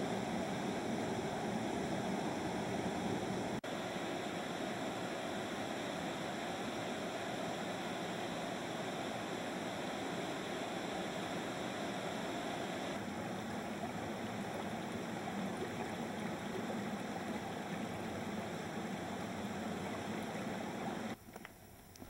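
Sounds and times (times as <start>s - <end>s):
waterfall rushing over rock: 0.0s - 21.2s.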